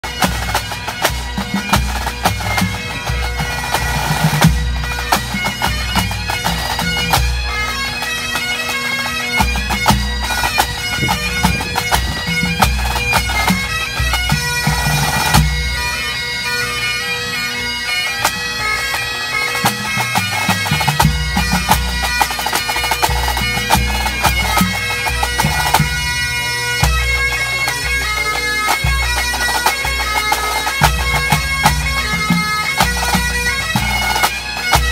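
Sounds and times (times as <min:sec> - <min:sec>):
bass and tenor drums beating: 0:00.0 - 0:16.8, 0:18.2 - 0:34.9
bagpipes with drones: 0:00.0 - 0:34.9.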